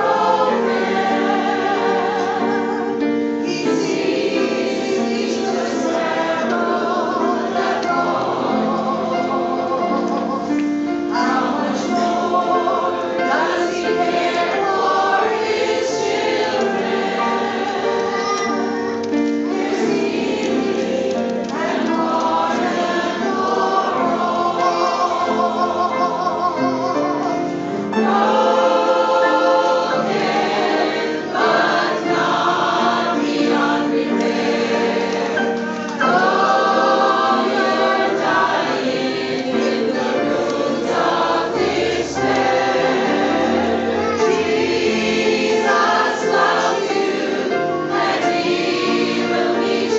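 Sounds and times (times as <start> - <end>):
choir singing gospel: 0.0 - 49.9.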